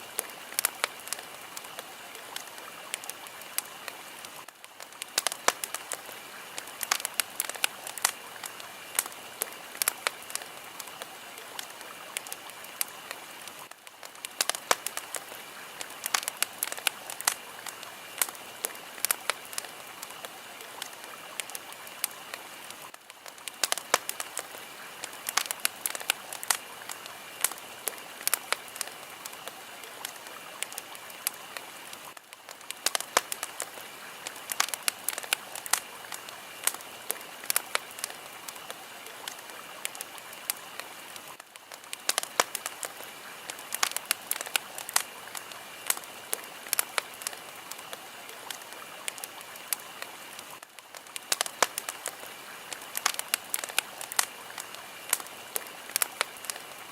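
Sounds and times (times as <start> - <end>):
fire crackling and popping: 0.0 - 56.9.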